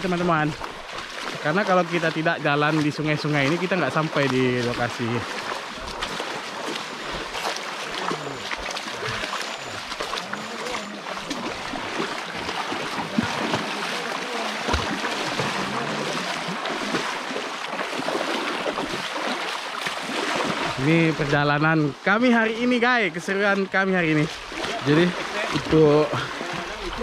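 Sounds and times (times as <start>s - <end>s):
people wading splashes: 0.0s - 27.0s
shallow river rushing: 0.0s - 27.0s.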